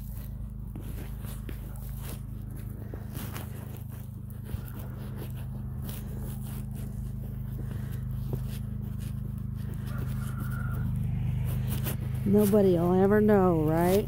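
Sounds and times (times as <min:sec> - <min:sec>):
footsteps crunching over snow: 0:00.0 - 0:14.0
garden tractor engine humming: 0:00.0 - 0:14.0.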